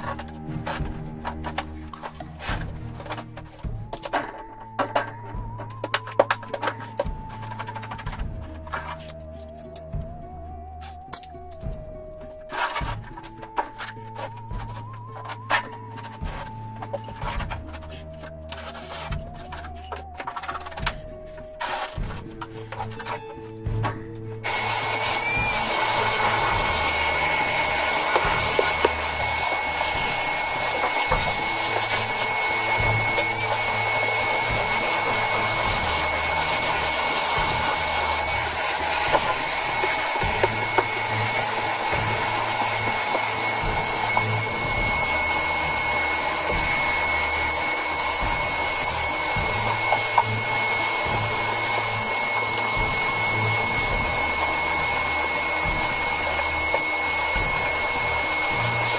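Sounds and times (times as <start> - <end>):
shop vacuum running with whine: 0.0 - 58.9.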